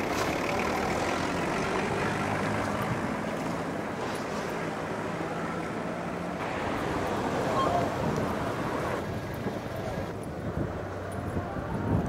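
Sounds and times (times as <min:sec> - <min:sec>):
engine hum: 0:00.0 - 0:12.0
open-air harbour noise: 0:00.0 - 0:12.0.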